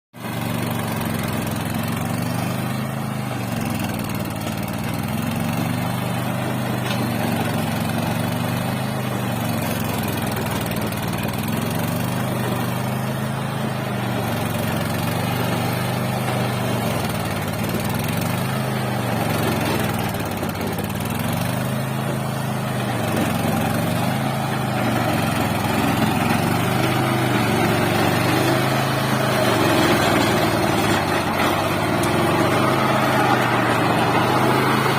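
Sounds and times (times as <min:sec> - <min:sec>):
tractor engine running: 0:00.2 - 0:34.9.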